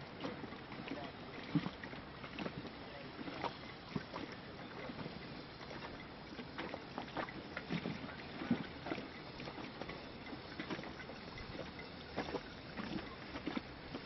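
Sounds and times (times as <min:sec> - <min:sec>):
hiss of moving water: 0:00.0 - 0:14.0
small waves lapping: 0:00.0 - 0:14.0.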